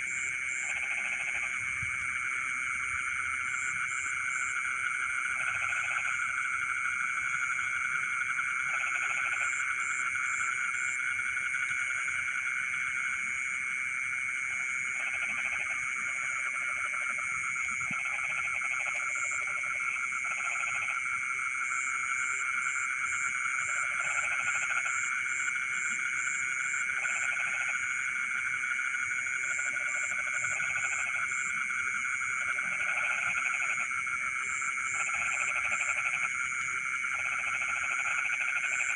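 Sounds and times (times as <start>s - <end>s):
frogs pulsed croaks: 0.0s - 38.9s
frogs trilling chorus: 0.0s - 38.9s.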